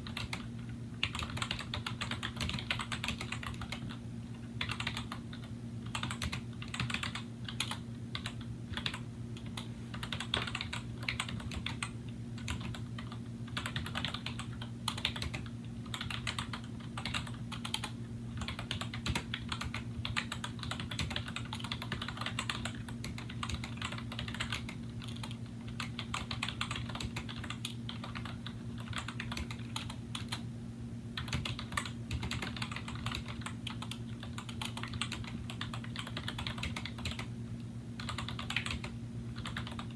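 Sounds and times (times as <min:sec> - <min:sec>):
fast typing on keyboard: 0:00.0 - 0:04.0, 0:04.6 - 0:30.4, 0:31.2 - 0:37.3, 0:38.0 - 0:39.9.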